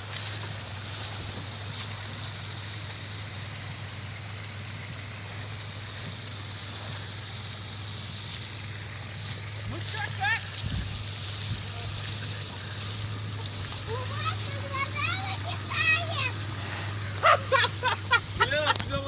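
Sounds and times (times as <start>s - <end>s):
stream water rushing: 0.0s - 19.0s
vehicle engine humming: 0.0s - 19.0s.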